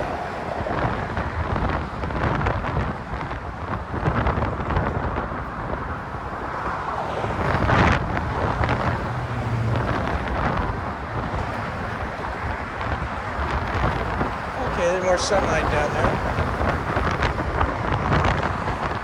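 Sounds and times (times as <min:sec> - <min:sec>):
low engine hum: 0:00.0 - 0:19.0
road traffic passing: 0:00.0 - 0:19.0
vehicle whoosh: 0:00.0 - 0:19.0
wind buffeting microphone: 0:00.0 - 0:19.0.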